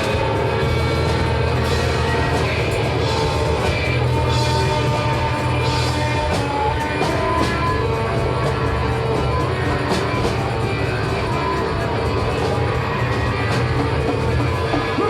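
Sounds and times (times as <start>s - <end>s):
distorted electric guitars: 0.0s - 15.0s
drums: 0.0s - 15.0s
organ: 0.0s - 15.0s.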